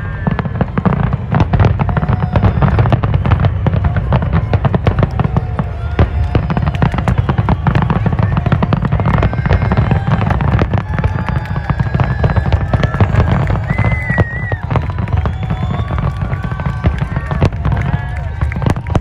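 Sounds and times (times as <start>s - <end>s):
fireworks crackling bursts: 0.0s - 19.0s.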